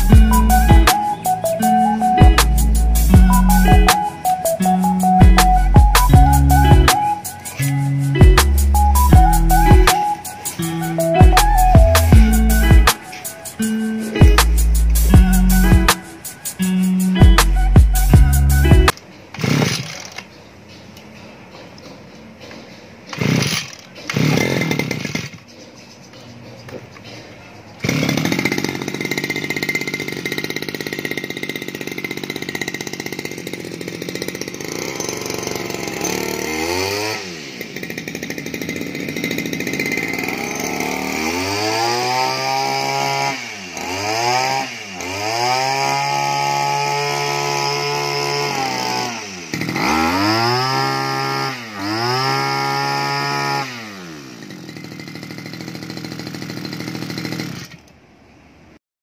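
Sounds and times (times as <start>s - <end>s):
brush cutter engine revving: 0.0s - 20.3s, 23.1s - 25.4s, 27.8s - 58.0s.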